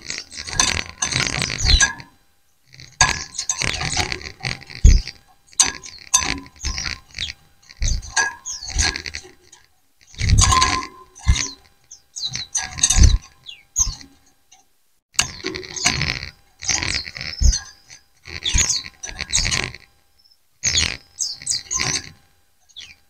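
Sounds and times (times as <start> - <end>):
birds twittering: 0.0 - 23.0.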